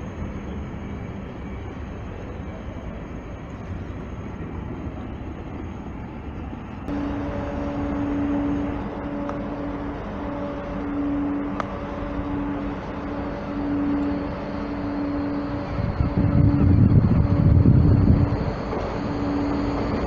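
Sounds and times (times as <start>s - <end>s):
level crossing warning tone: 0.0s - 20.0s
traffic rumble: 0.0s - 20.0s.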